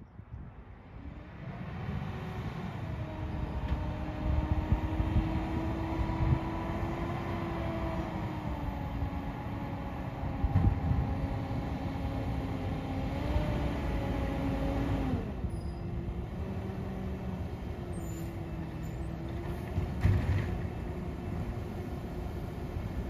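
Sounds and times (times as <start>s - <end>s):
garbage truck diesel engine rumble: 0.4s - 23.0s.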